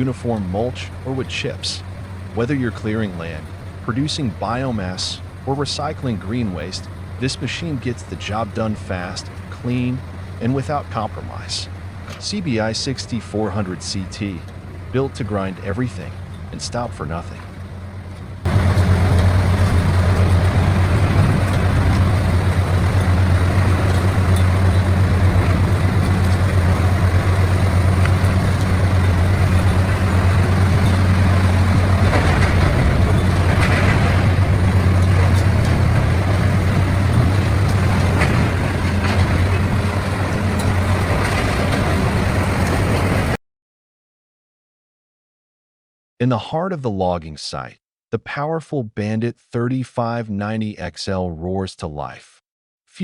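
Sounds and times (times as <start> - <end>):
heavy engine drone: 0.0 - 43.4
grinding noise: 0.6 - 43.4.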